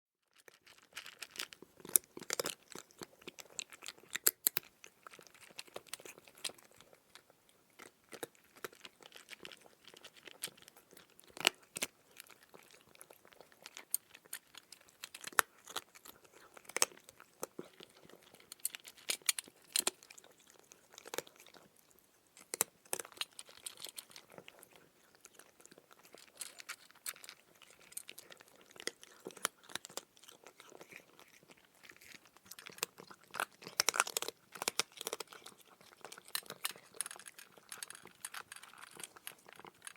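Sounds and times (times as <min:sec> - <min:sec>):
cat crunching dry kibble: 0:00.3 - 0:39.9.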